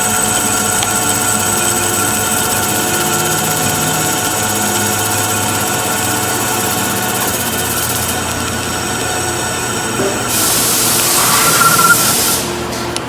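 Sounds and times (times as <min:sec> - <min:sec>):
machine tool humming and whining: 0:00.0 - 0:13.0.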